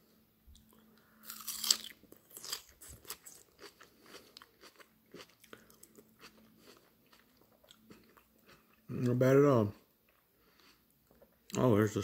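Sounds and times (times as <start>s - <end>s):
person chewing crunchy salad: 0.5s - 9.2s, 10.0s - 11.4s.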